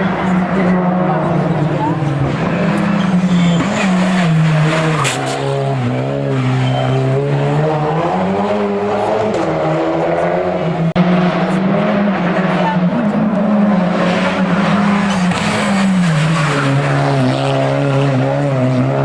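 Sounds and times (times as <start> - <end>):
race car engine running hard: 0.0 - 19.0.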